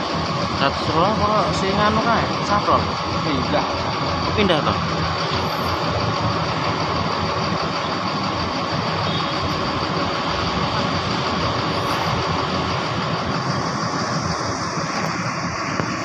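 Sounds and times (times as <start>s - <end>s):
bus diesel engine idling: 0.0s - 16.0s.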